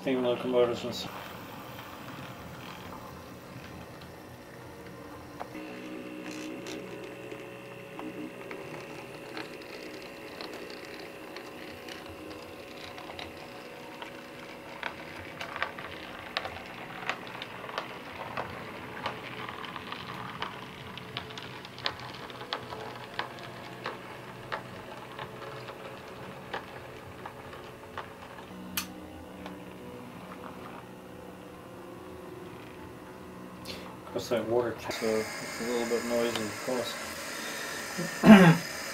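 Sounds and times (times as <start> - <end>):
model locomotive motor whirring: 0.0 - 31.4, 33.8 - 38.9.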